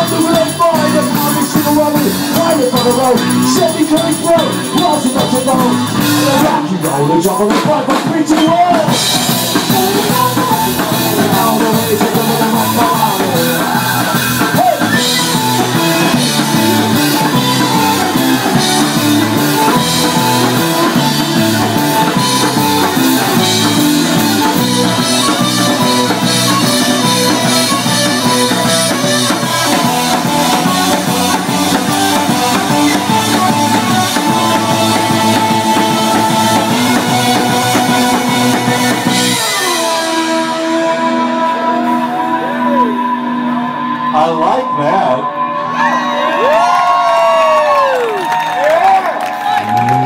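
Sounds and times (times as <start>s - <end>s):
rock band playing: 0.0s - 50.0s.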